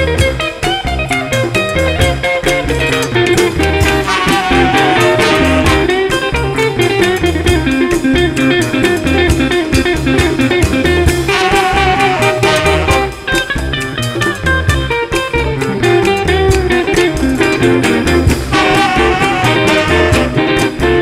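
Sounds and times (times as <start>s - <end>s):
afrobeat band playing live: 0.0s - 21.0s.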